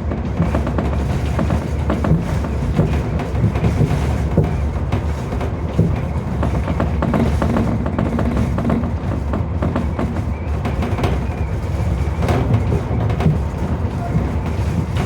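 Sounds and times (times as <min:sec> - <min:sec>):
train rumbling: 0:00.0 - 0:15.0
wheels clacking on track: 0:00.0 - 0:15.0.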